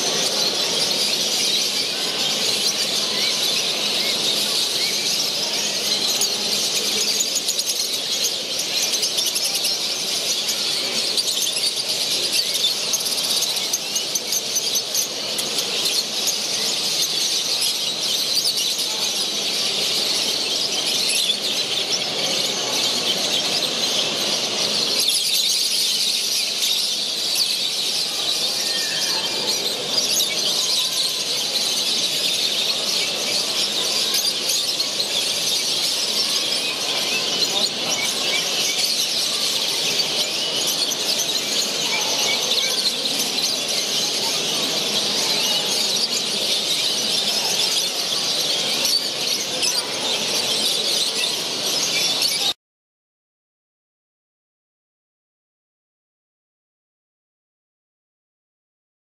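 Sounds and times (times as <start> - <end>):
low hall murmur: 0.0 - 52.6
songbirds chirping and singing: 0.0 - 52.6.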